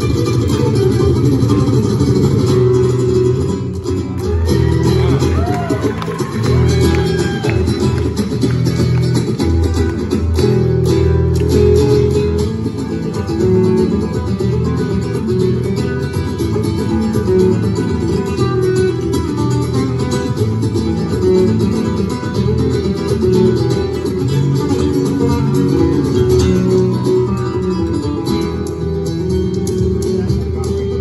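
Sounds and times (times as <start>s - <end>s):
acoustic guitars playing flamenco: 0.0s - 31.0s.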